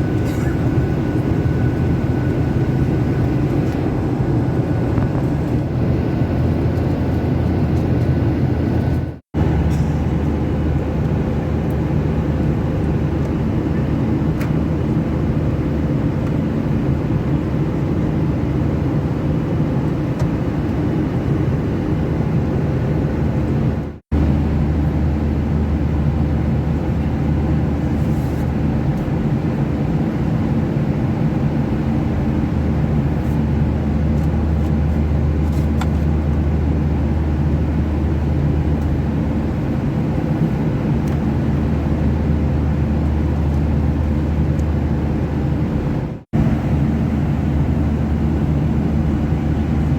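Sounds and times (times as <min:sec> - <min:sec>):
airplane cabin air rush: 0:00.0 - 0:23.4, 0:24.2 - 0:49.9
jet engines droning: 0:00.0 - 0:49.9.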